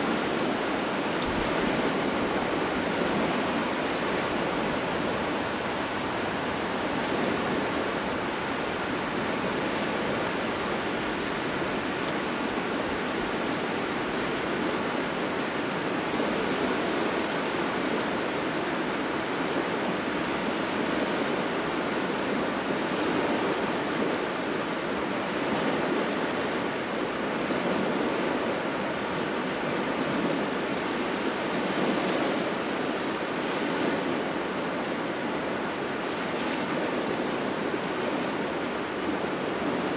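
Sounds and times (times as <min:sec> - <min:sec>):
small waves washing on shore: 0:00.0 - 0:39.9
strong wind: 0:00.0 - 0:39.9.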